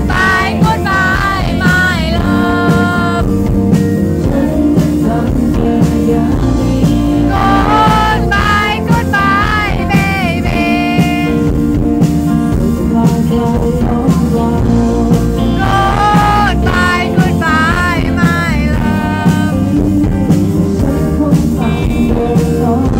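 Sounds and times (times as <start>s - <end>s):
person singing: 0.0s - 3.5s, 4.1s - 11.6s, 12.3s - 22.9s
acoustic guitar: 0.0s - 22.9s
drums: 0.0s - 22.9s
electric bass: 0.0s - 22.9s.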